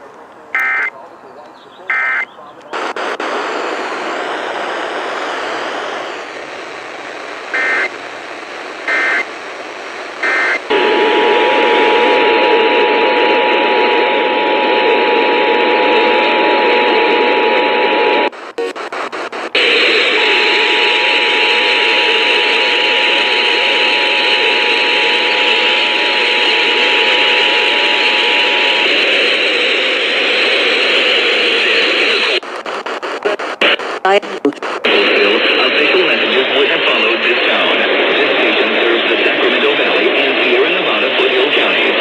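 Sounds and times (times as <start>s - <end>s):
radio static: 0.0s - 42.0s.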